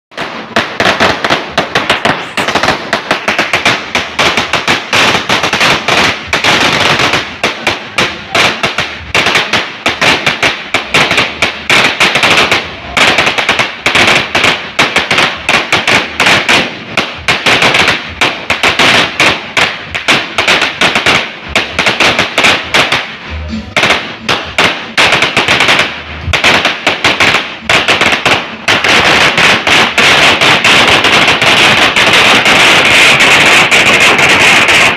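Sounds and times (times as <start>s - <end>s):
firecracker string bursting: 0.1s - 34.9s.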